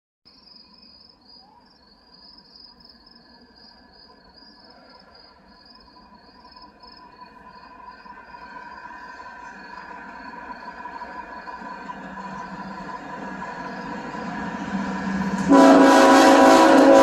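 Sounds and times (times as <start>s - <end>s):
crickets chirping: 0.3s - 15.3s
distant train hum: 1.1s - 17.0s.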